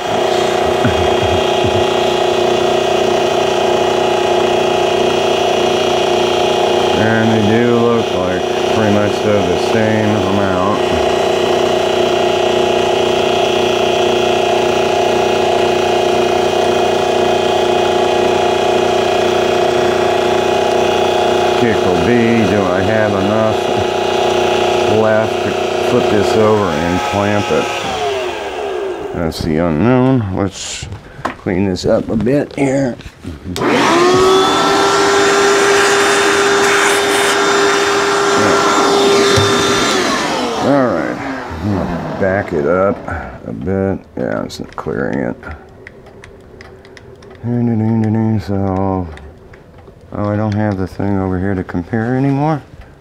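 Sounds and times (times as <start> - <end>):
milling machine humming and whining: 0.0 - 30.2, 33.6 - 49.4
shop vacuum running: 0.0 - 53.0.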